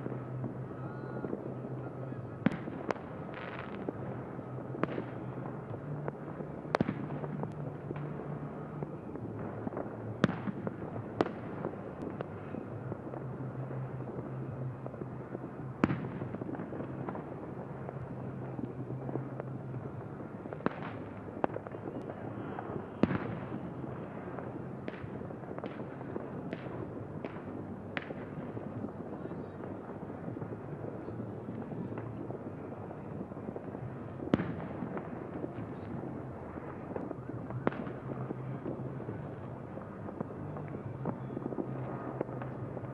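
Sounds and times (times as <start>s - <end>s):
fireworks bursting: 0.0s - 42.9s
rushing background noise: 0.0s - 42.9s.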